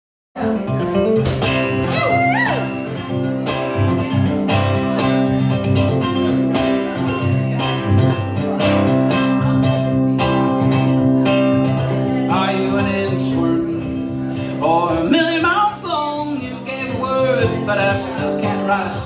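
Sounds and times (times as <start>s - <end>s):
sliding guitar notes: 0.4s - 19.0s
strummed guitars: 0.4s - 19.0s.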